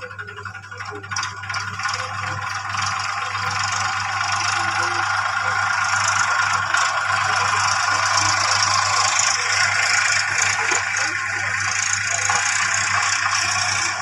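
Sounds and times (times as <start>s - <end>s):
toy wheels rolling on tiles: 0.0s - 14.0s.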